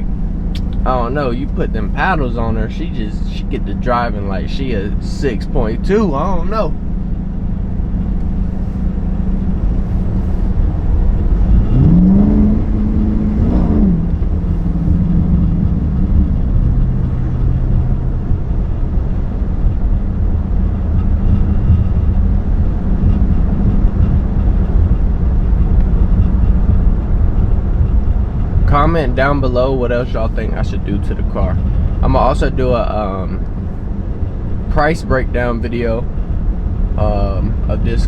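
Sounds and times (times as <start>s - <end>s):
vee eight engine rumble: 0.0s - 38.0s.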